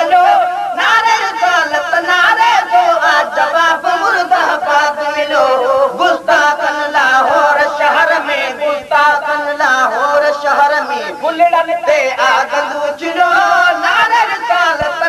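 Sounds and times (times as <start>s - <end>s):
voices chanting devotional song: 0.0s - 15.0s.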